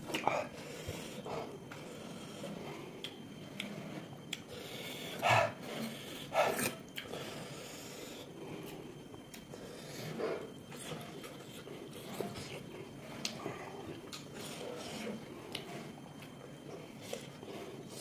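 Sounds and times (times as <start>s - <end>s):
person chewing food: 0.1s - 5.2s, 8.6s - 18.0s.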